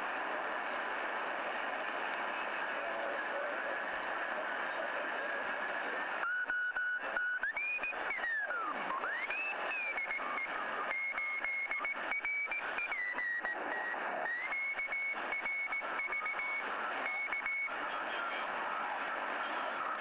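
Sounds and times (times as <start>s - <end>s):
radio crackles: 0.0s - 20.0s
radio static hiss: 0.0s - 20.0s.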